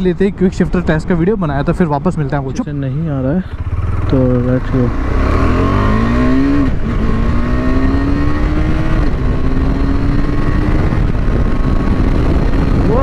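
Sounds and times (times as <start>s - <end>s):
motorcycle engine accelerating: 2.3s - 13.0s.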